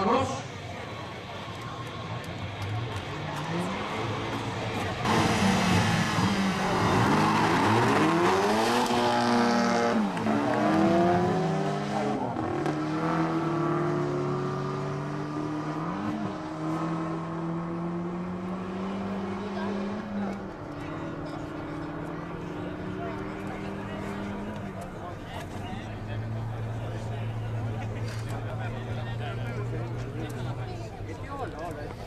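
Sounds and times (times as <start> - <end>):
racing car engines accelerating: 0.0 - 32.0.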